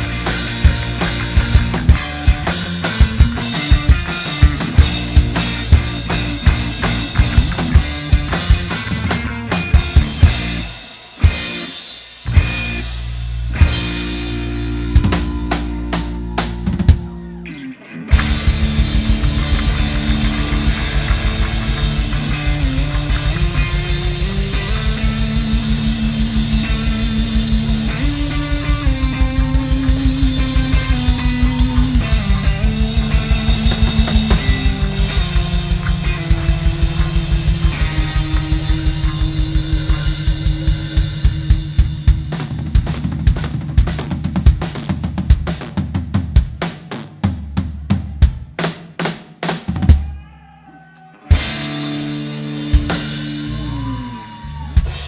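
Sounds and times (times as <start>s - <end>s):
band playing instrumental music: 0.0s - 17.4s, 18.1s - 46.1s, 51.3s - 55.0s.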